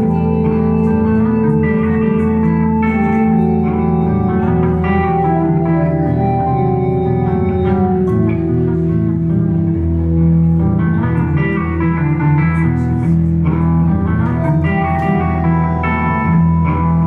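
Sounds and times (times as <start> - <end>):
bass line: 0.0 - 17.0
electric guitar playing: 0.0 - 17.0.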